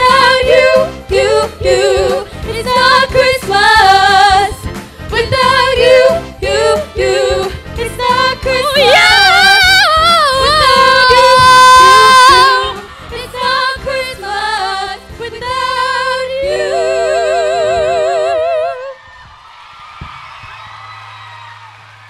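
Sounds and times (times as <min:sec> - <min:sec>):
women singing through pa: 0:00.0 - 0:19.0.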